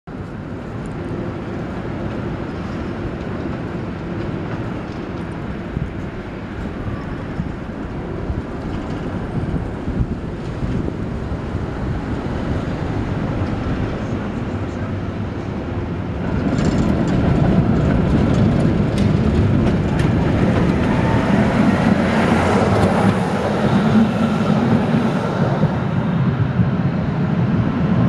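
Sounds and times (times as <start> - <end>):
tram rail rumble: 0.1 - 28.0.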